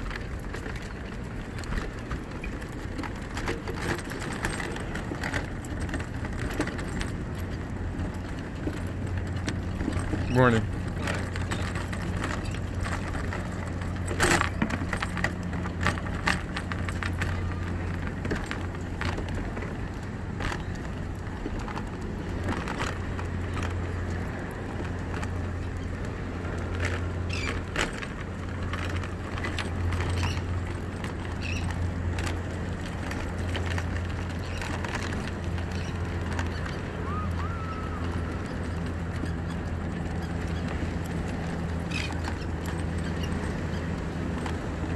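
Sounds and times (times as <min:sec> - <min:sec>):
electric scooter motor humming: 0:00.0 - 0:44.9
wheels clicking over wooden boards: 0:00.0 - 0:44.9.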